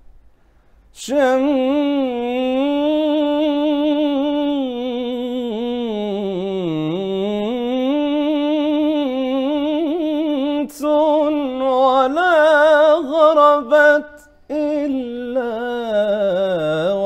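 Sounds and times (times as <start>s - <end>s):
person singing unaccompanied: 1.0s - 17.0s.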